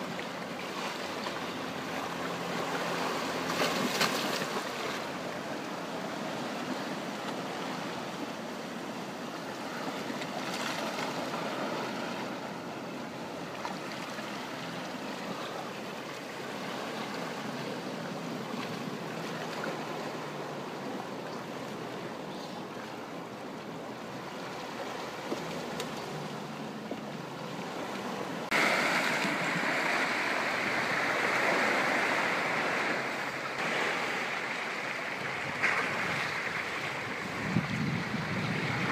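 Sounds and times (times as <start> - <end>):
sea water lapping around rocks: 0.0 - 23.0, 23.6 - 38.9.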